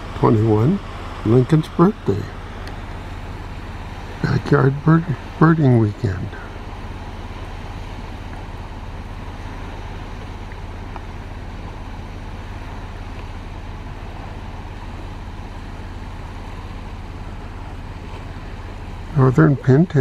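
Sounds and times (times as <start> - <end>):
waves breaking on rocky shore: 0.0 - 20.0
wind: 0.0 - 20.0.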